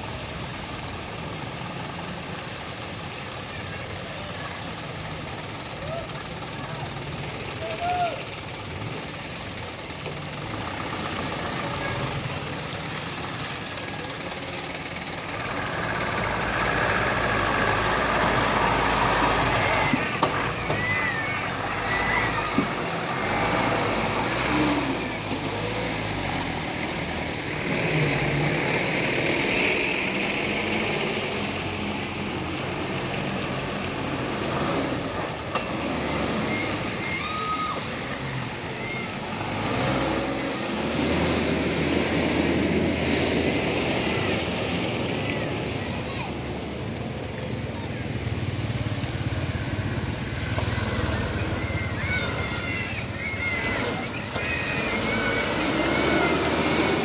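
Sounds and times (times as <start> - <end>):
heavy truck engines running: 0.0 - 57.0
people's voices: 0.0 - 57.0.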